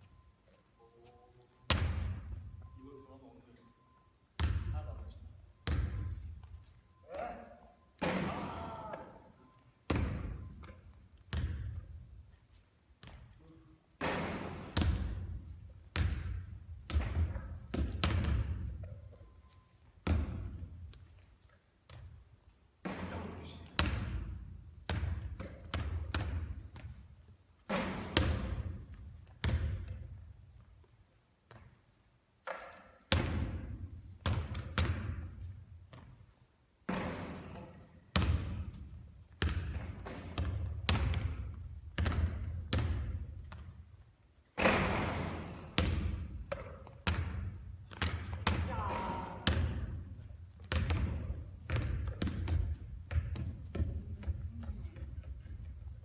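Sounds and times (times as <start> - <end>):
basketball bouncing in a gym: 1.6 - 3.0, 3.8 - 12.4, 13.0 - 30.8, 31.4 - 56.0.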